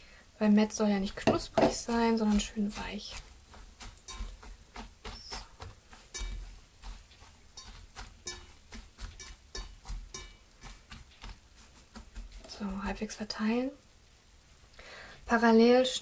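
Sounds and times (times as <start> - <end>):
hand squeezing crumbs crackling: 0.7 - 15.3.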